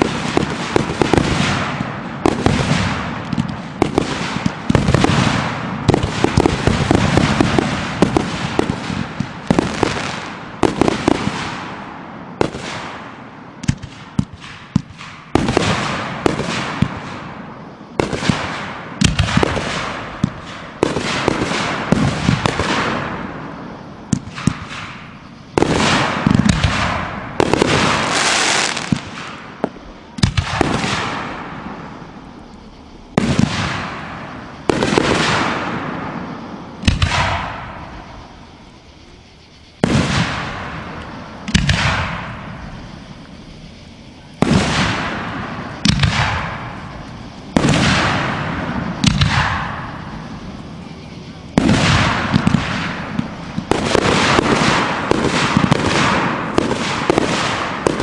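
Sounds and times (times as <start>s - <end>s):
fireworks bursting bangs: 0.0s - 58.0s.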